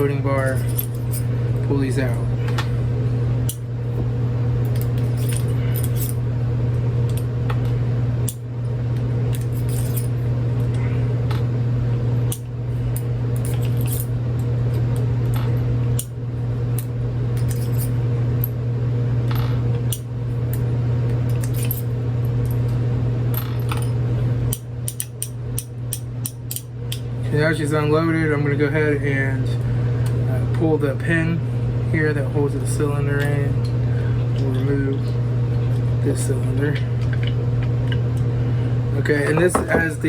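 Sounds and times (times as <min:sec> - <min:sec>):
loud steady low hum: 0:00.0 - 0:40.0.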